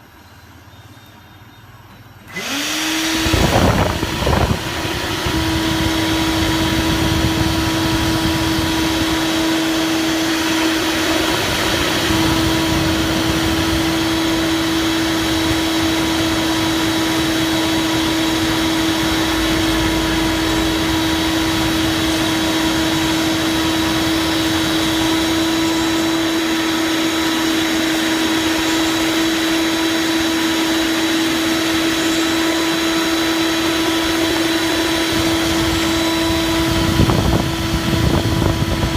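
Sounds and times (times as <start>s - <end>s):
milling machine spindle whine: 0.0s - 38.9s.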